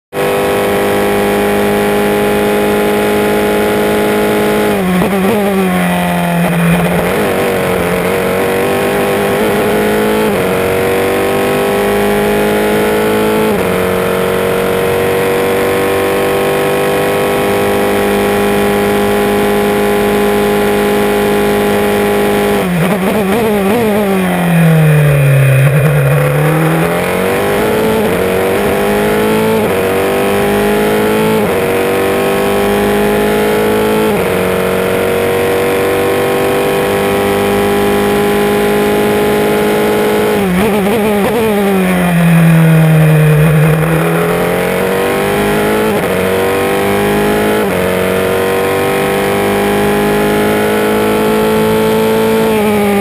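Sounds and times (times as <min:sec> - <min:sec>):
race car engine at high revs: 0:00.1 - 0:53.0.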